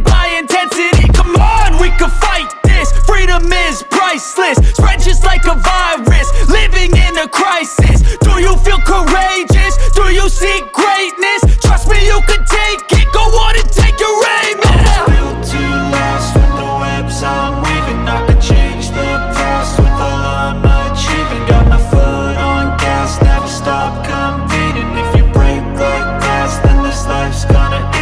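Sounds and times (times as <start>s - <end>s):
heavy booming bass: 0.0s - 0.4s, 1.0s - 3.8s, 4.6s - 7.1s, 7.8s - 10.6s, 11.4s - 14.0s, 14.7s - 28.0s
hip hop track: 0.0s - 28.0s
vocal line: 0.0s - 28.0s.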